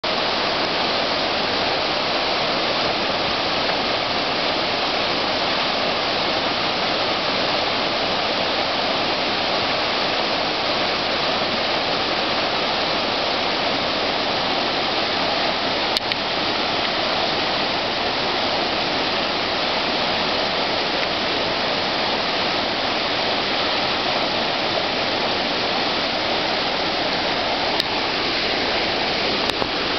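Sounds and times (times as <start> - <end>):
creek rapids rushing: 0.0 - 29.9.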